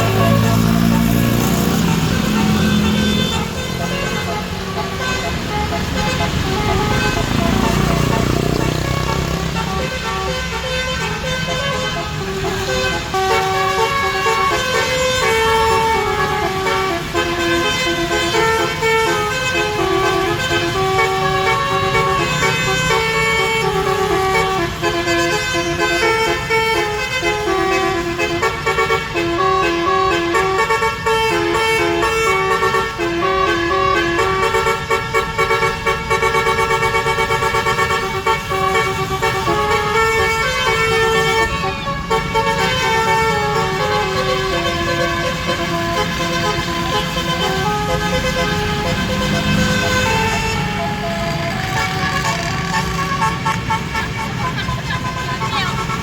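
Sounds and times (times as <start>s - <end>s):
musical air horn tune: 0.0s - 56.0s.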